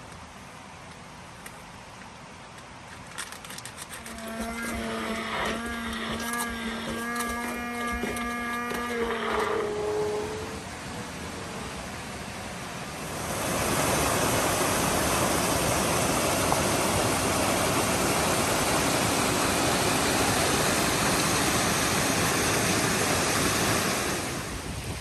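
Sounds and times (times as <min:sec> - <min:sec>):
creek water rushing: 0:04.0 - 0:25.0.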